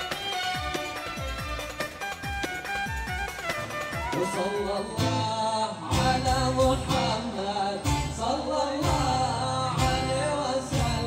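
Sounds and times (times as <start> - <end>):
music with singing: 0.0 - 11.0.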